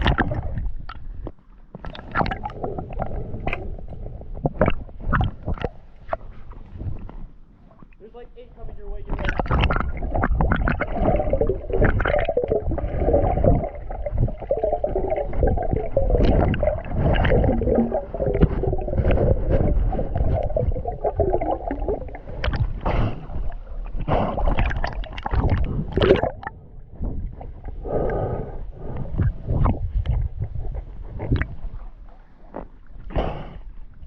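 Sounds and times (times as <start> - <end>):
muffled water sloshing underwater: 0.0 - 34.0.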